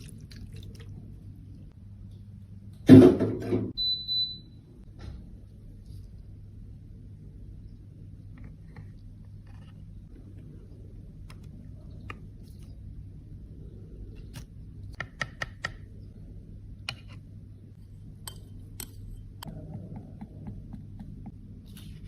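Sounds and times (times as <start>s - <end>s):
steady low hum: 3.9s - 22.0s.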